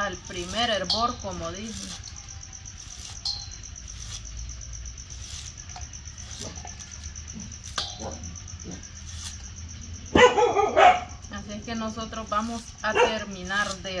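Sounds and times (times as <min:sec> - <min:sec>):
knife scraping corn kernels: 0:00.0 - 0:09.6, 0:12.2 - 0:14.0.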